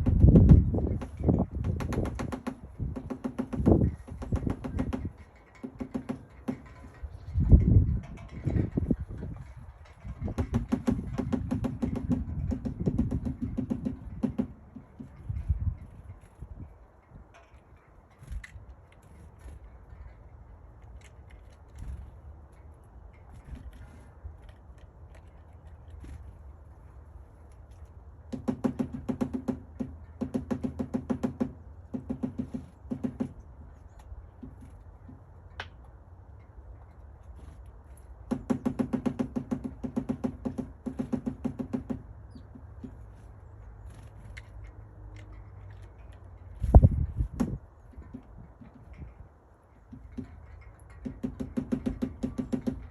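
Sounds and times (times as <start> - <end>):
woodpecker pecking at wood: 0.0 - 7.4, 9.4 - 16.2, 20.6 - 36.0, 36.9 - 49.0, 49.8 - 52.9.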